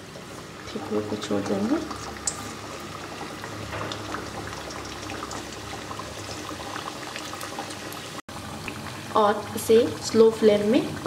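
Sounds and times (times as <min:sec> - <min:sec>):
dough deep-frying in oil: 0:00.0 - 0:11.0.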